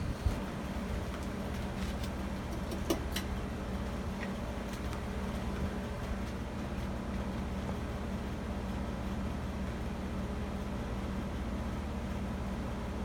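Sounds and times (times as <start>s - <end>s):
ceiling fan motor humming: 0.0s - 13.0s.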